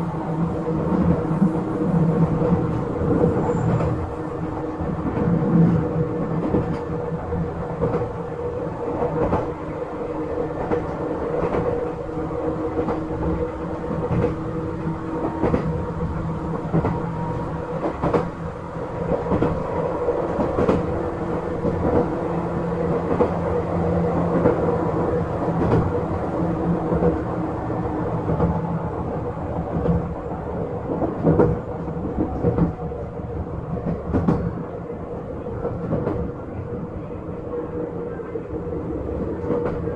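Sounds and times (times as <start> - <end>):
wheel and rail noise: 0.0 - 39.9.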